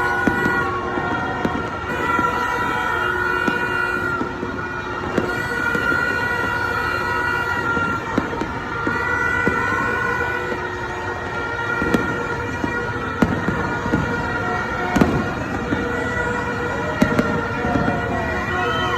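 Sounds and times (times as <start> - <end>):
fireworks bangs: 0.0 - 18.9.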